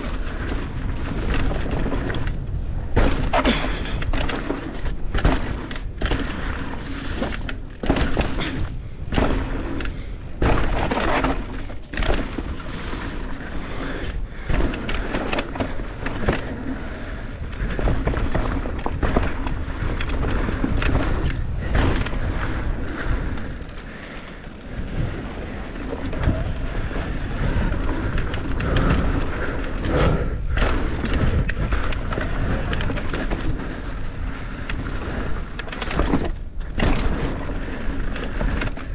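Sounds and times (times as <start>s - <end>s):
bike rattling over bumps: 0.0s - 38.9s
bike tyres crunching over dirt: 0.0s - 38.9s.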